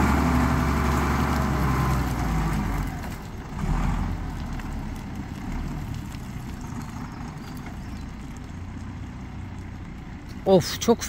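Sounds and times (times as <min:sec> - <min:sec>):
vehicle engine running at low revs: 0:00.0 - 0:11.0.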